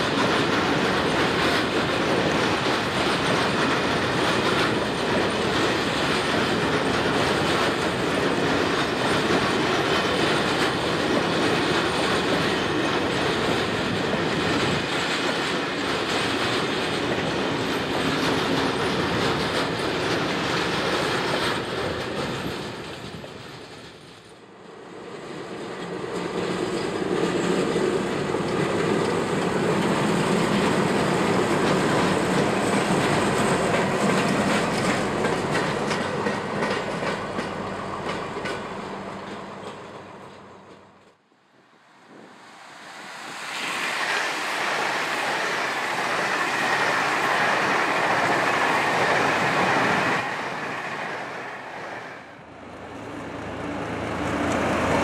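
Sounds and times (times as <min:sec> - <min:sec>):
diesel locomotive passing: 0:00.0 - 0:55.0
train wheels on rails: 0:00.0 - 0:55.0.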